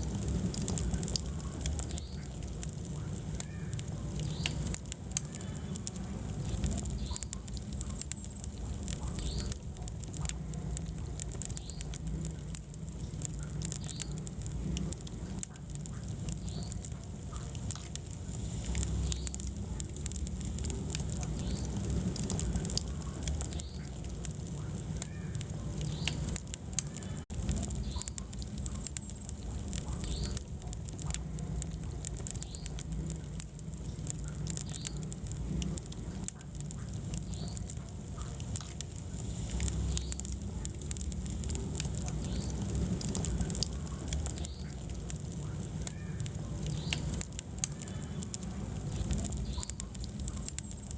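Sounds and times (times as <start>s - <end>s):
burning logs crackling and popping: 0.0s - 50.9s
fire flames rumbling: 0.0s - 50.9s.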